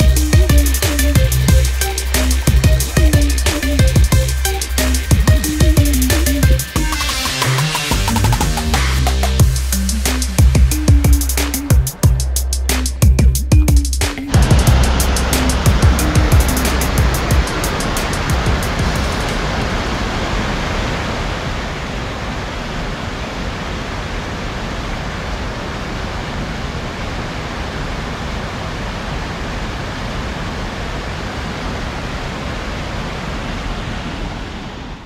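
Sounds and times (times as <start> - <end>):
water rushing over weir: 0.0 - 13.2, 14.1 - 35.0.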